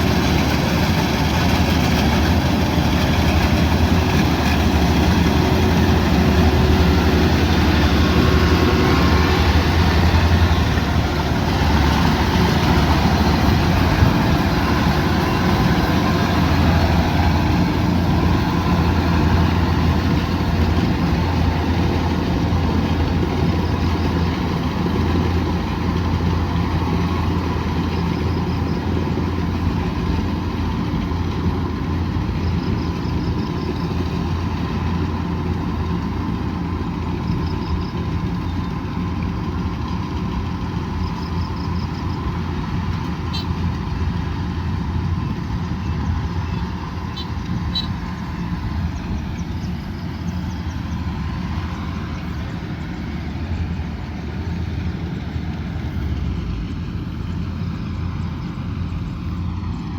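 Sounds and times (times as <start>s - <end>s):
combine harvester engine hum: 0.0s - 59.9s
harvester machinery noise: 0.0s - 59.9s.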